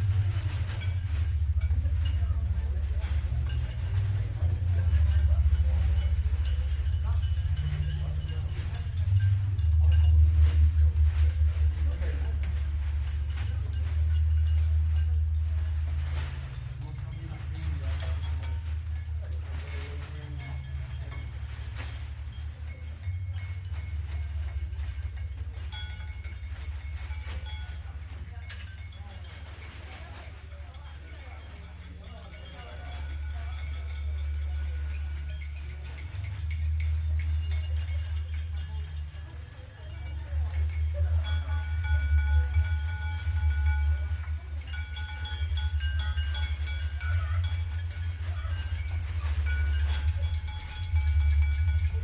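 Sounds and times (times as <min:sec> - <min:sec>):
deep low drone: 0:00.0 - 0:30.4, 0:33.0 - 0:52.0
light taps on bowls ringing: 0:00.0 - 0:52.0
metallic jingles and clinks: 0:00.0 - 0:52.0.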